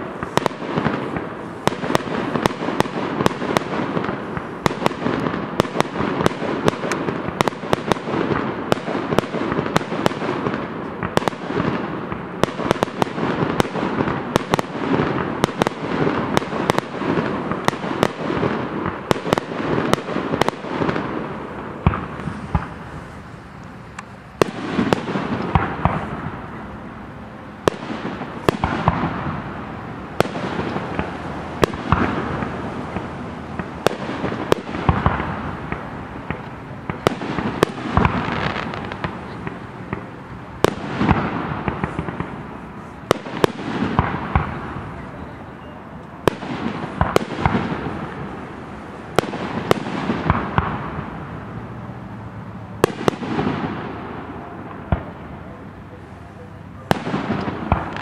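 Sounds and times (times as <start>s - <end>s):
fireworks bursting with bangs: 0.0s - 58.0s
rumble after fireworks: 0.0s - 58.0s.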